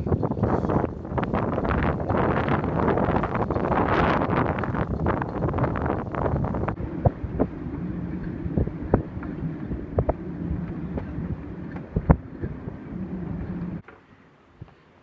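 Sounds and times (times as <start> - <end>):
gusting wind buffeting microphone: 0.0 - 13.8
steady low hum: 0.0 - 13.8.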